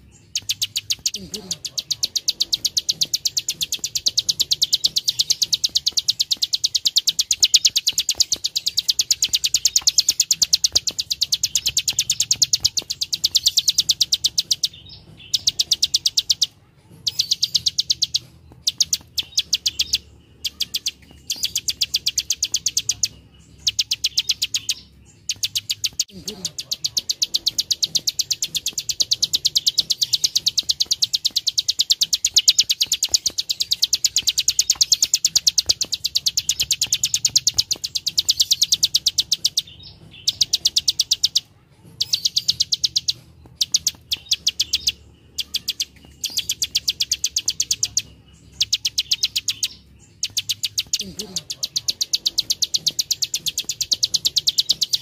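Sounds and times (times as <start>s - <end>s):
bird clicking song: 0.0s - 55.0s.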